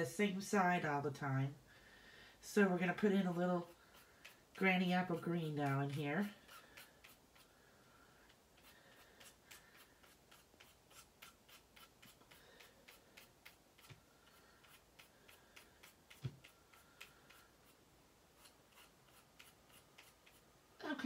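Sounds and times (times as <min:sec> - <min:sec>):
blade scraping pastel stick: 0:02.6 - 0:07.6, 0:08.2 - 0:17.8, 0:18.4 - 0:21.0.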